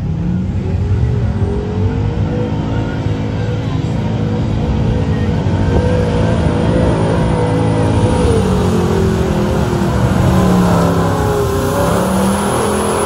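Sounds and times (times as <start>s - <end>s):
truck engine at high revs: 0.0s - 13.0s.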